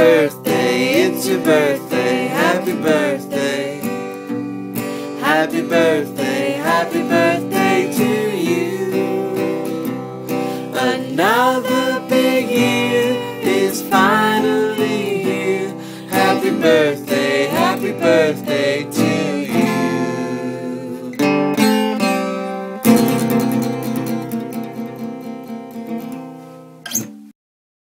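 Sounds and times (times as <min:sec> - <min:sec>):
upbeat song with acoustic guitar: 0:00.0 - 0:27.3.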